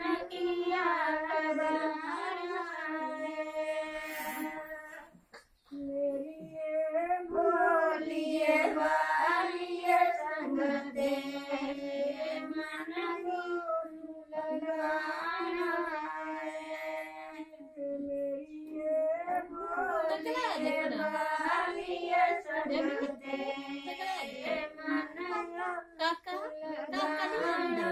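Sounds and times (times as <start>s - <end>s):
women singing: 0.0s - 27.9s.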